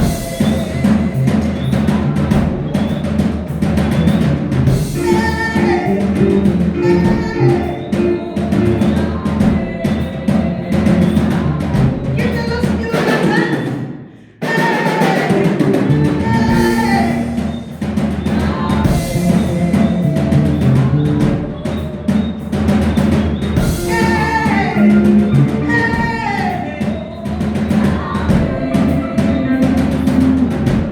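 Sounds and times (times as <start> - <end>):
drum kit beat: 0.0 - 30.9
voices singing: 0.0 - 30.9.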